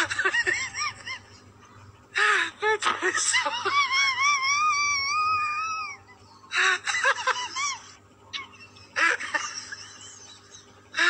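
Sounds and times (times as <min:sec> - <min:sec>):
person laughing: 0:00.0 - 0:01.5, 0:02.1 - 0:11.0.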